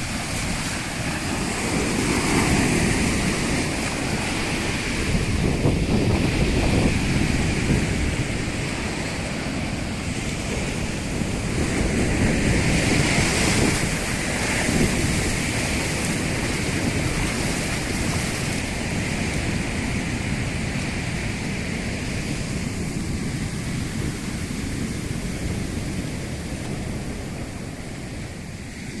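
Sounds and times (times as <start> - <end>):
sea surf breaking on beach: 0.0 - 29.0
wind noise on microphone: 0.0 - 29.0.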